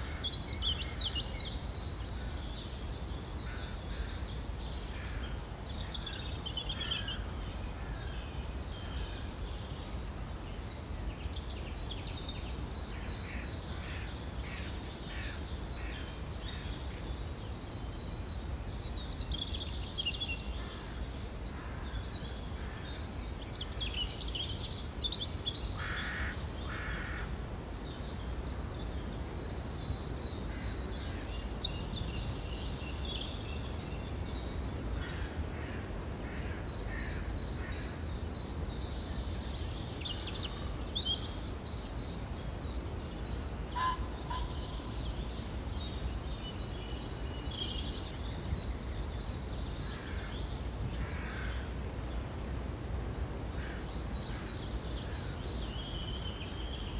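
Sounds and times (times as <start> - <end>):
songbirds singing and chirping: 0.0 - 56.9.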